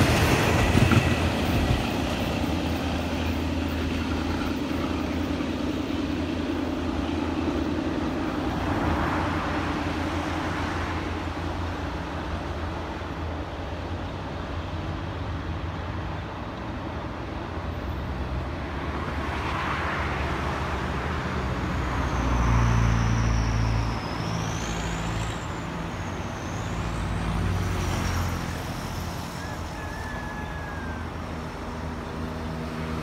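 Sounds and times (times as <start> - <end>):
passing vehicles: 0.0 - 33.0.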